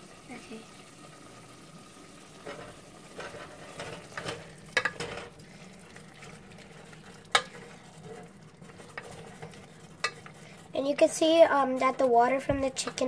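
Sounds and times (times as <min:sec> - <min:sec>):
frying sizzle: 0:00.0 - 0:13.0
wooden spoon scraping metal pot: 0:02.4 - 0:13.0.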